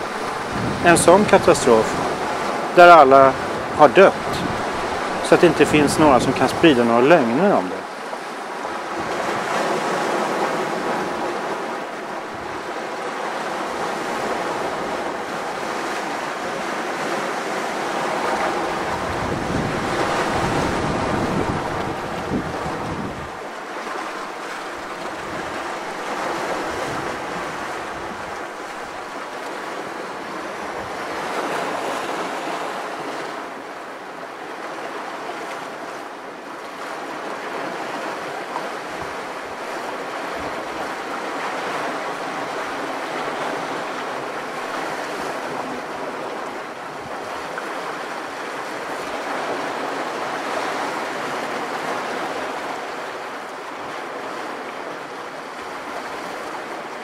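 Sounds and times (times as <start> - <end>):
waves breaking over rocks: 0.0 - 57.0.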